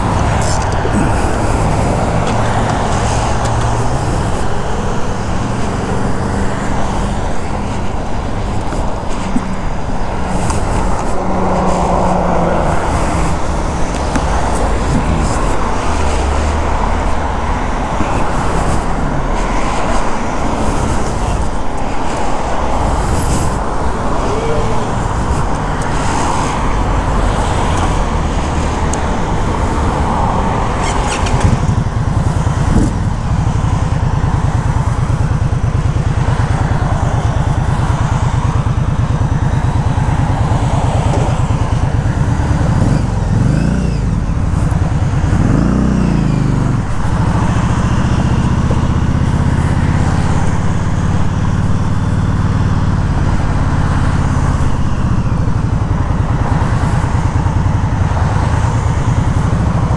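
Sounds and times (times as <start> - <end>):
freeway traffic noise: 0.0 - 59.9
motorcycle engine idling and revving: 0.0 - 59.9.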